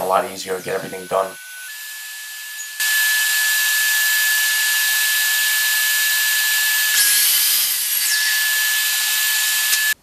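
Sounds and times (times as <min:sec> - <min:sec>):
miter saw whining: 0:00.0 - 0:10.0.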